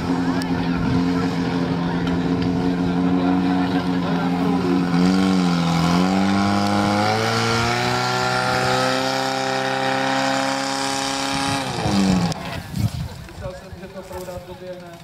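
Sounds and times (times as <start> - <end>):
fire pump engine running: 0.0 - 15.0.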